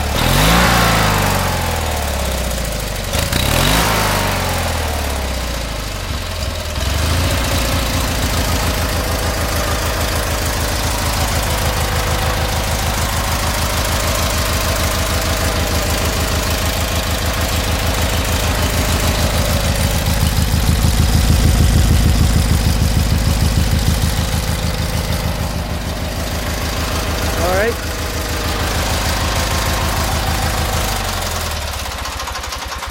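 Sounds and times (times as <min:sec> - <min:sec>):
twin engine idling: 0:00.0 - 0:32.9.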